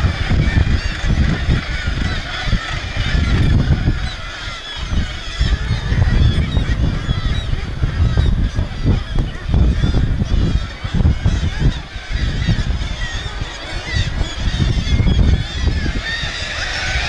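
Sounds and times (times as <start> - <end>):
gulls screaming: 0.0 - 17.0.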